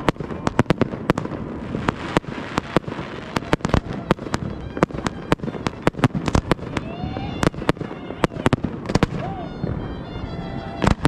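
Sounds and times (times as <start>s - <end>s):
firework shells bursting: 0.0s - 9.3s
crackling hiss: 0.0s - 11.0s.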